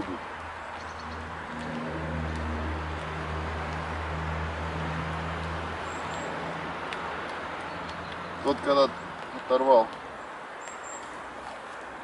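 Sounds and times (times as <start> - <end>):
distant engine hum: 0.0 - 12.0.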